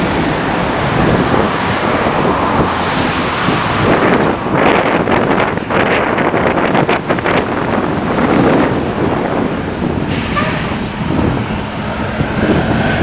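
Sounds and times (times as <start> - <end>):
jet engines roaring on runway: 0.0 - 13.0.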